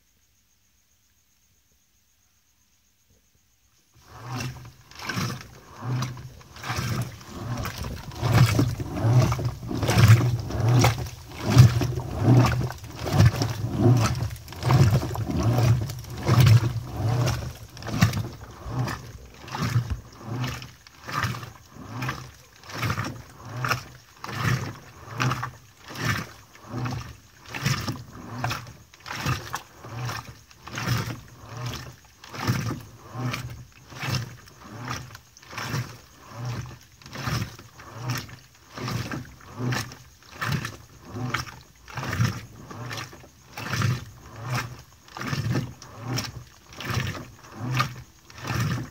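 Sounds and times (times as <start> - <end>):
washing machine agitating: 4.0 - 48.9
water and clothes swishing: 4.0 - 48.9.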